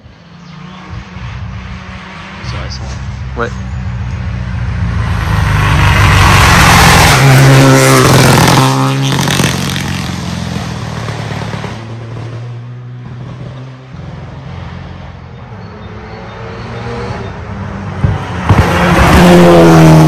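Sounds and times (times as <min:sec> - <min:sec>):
rally car passing at speed: 0:00.1 - 0:20.0.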